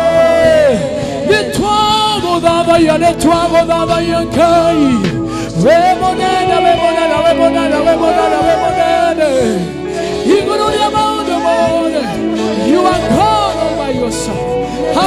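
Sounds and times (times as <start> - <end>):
person singing long held notes: 0.0 - 15.0
sustained chords with light beat: 0.0 - 15.0.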